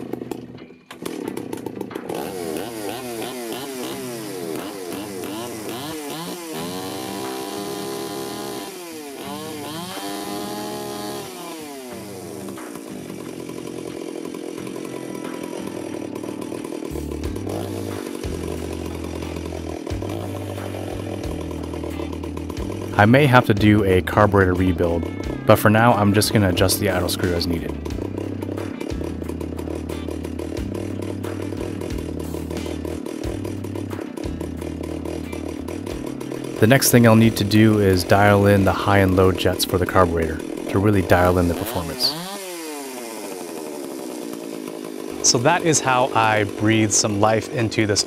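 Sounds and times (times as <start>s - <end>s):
chainsaw engine revving and idling: 0.0s - 48.0s.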